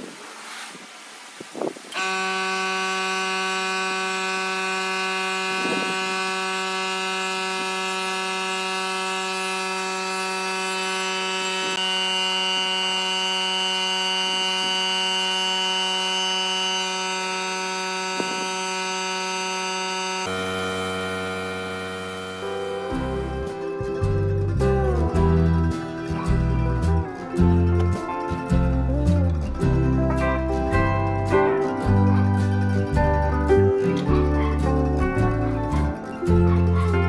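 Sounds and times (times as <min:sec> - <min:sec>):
electronic buzzing tone: 0:01.9 - 0:32.7.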